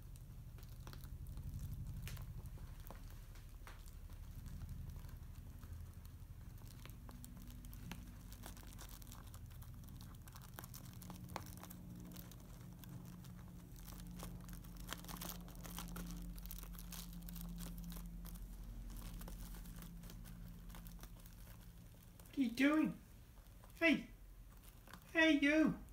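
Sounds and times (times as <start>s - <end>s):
bubble wrap popping: 0.0s - 25.1s.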